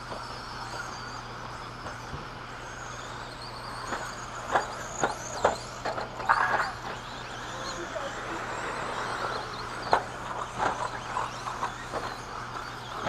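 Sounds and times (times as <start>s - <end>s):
rc truck motors whining: 0.0s - 13.0s
tyre and track noise: 0.0s - 13.0s.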